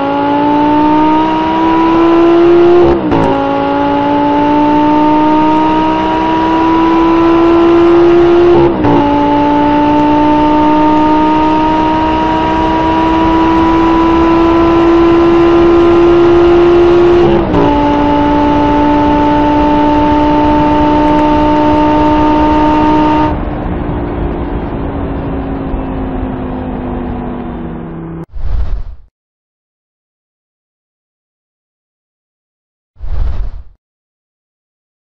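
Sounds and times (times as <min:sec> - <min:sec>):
car engine at full throttle: 0:00.0 - 0:28.3.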